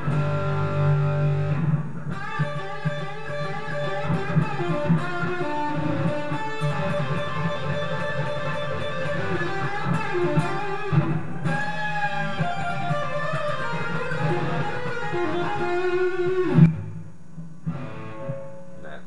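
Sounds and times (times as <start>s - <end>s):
electric guitar melody: 0.0s - 19.0s.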